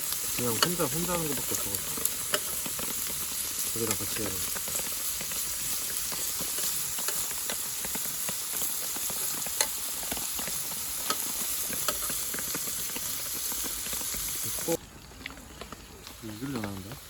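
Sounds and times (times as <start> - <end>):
food sizzling in a pan: 0.0 - 14.8
sharp crackles and pops: 0.0 - 17.0.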